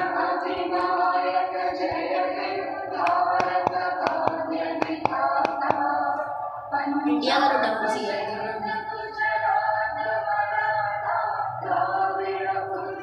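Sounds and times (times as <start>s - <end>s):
anthem sung and played on television: 0.0s - 13.0s.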